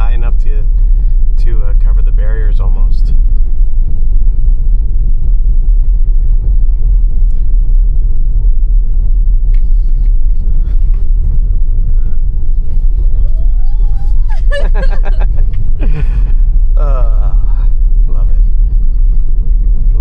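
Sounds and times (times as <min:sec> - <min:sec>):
electric car tyre and road noise: 0:00.0 - 0:20.0.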